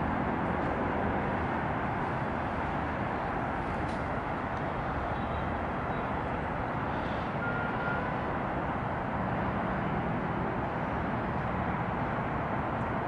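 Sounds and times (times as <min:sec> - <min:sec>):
distant city traffic: 0:00.0 - 0:13.0.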